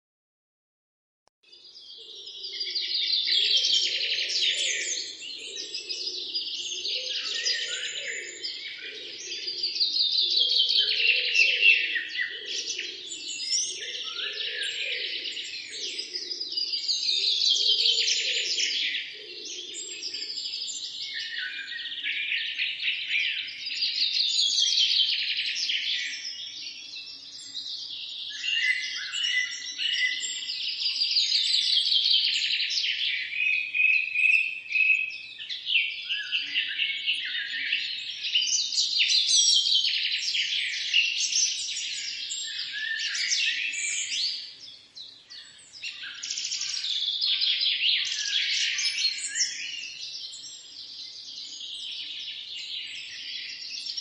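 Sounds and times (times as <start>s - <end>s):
songbirds singing: 1.4s - 54.0s.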